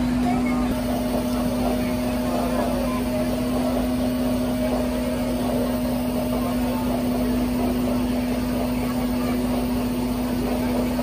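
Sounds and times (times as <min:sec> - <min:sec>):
truck engine droning hum: 0:00.0 - 0:11.0.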